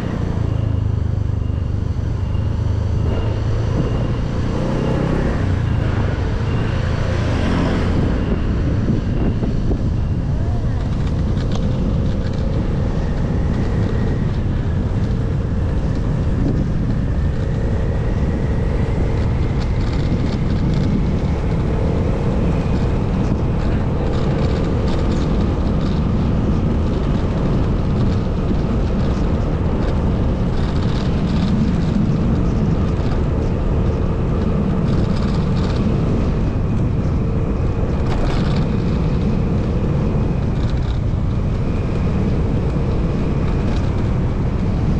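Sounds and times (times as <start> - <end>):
motorcycle engine running: 0.0 - 44.9
wind on microphone: 0.0 - 44.9.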